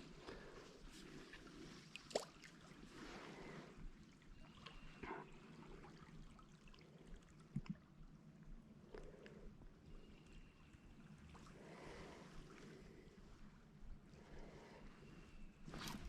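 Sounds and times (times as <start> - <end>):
faint running river water: 0.0 - 16.0.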